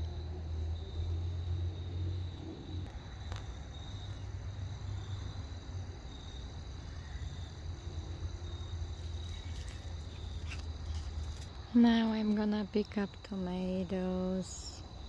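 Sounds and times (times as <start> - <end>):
high-pitched insect trill: 0.0 - 15.0
steady low hum: 0.0 - 15.0.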